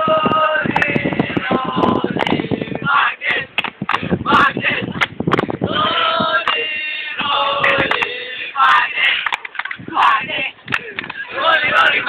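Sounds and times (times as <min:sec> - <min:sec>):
young voices chanting together: 0:00.0 - 0:12.0.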